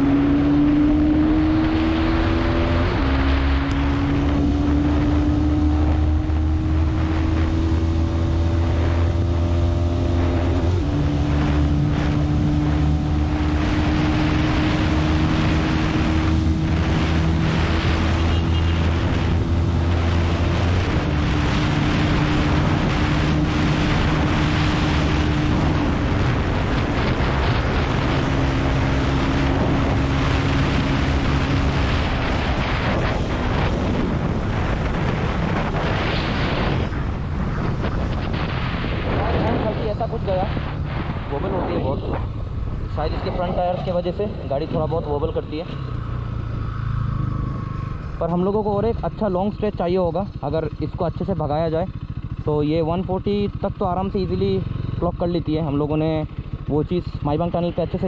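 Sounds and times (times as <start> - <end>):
motorcycle engine at full throttle: 0.0 - 58.0
wind rush on microphone: 0.0 - 58.0.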